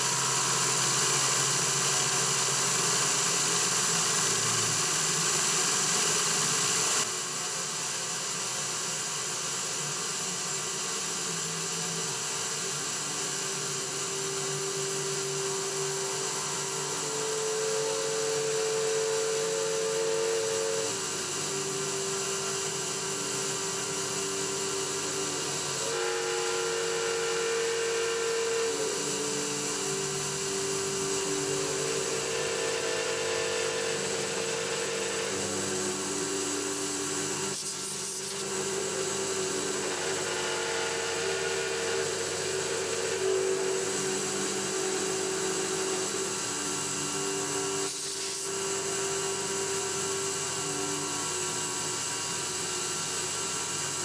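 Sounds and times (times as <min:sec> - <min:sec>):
milling machine cutting metal: 0:00.0 - 0:54.0.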